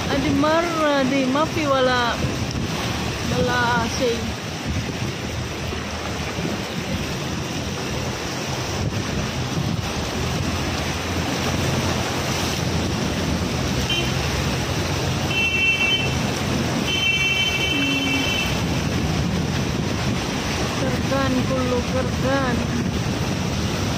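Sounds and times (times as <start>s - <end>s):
floodwater splashing against car: 0.0s - 23.9s
wind on microphone: 0.0s - 23.9s.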